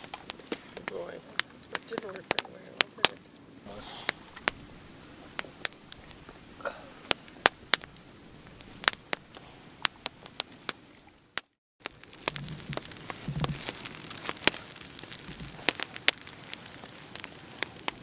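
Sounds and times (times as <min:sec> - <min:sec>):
campfire crackling and popping: 0:00.0 - 0:18.0
low steady hiss: 0:00.0 - 0:18.0.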